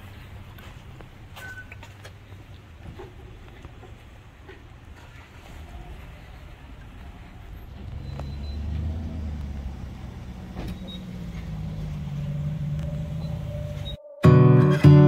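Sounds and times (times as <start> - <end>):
truck engine low rumble: 0.0 - 14.0.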